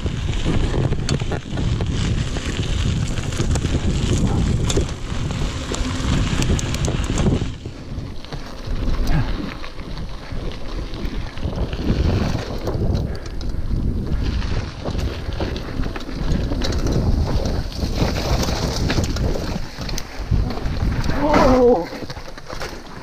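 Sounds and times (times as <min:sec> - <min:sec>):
bike rattling: 0:00.0 - 0:23.0
tyres rolling on dirt: 0:00.0 - 0:23.0
wind buffeting microphone: 0:00.0 - 0:23.0.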